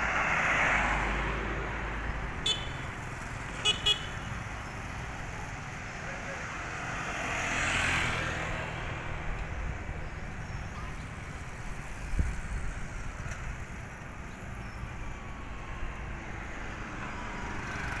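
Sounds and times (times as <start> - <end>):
low rumble of traffic: 0.0 - 18.0
motorcycle tricycle going by: 0.0 - 18.0
motorcycle passing: 0.2 - 14.2, 15.9 - 18.0.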